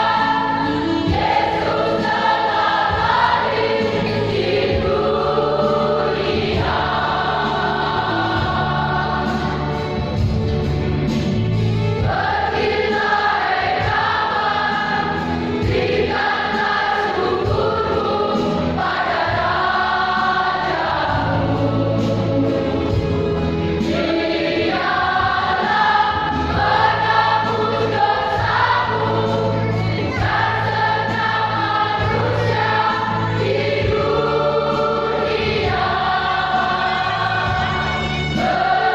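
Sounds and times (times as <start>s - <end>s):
church choir singing: 0.0s - 38.9s
low accompaniment: 0.0s - 38.9s.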